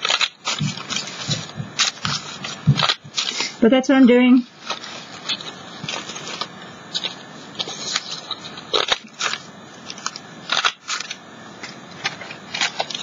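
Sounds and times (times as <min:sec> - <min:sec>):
paper crinkling: 0:00.0 - 0:03.6, 0:04.4 - 0:13.0.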